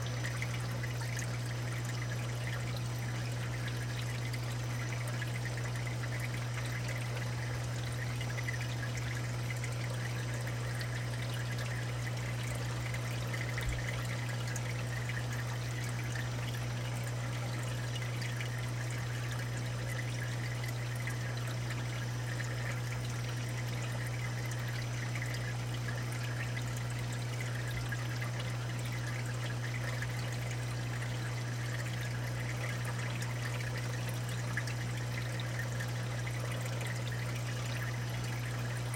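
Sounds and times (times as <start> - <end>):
steady low hum: 0.0 - 38.9
water trickling and pouring: 0.0 - 38.9.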